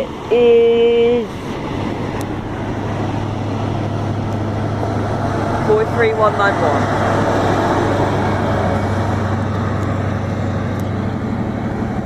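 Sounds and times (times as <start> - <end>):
diesel train engine hum: 0.0 - 12.0
wheel and rail noise: 0.0 - 12.0.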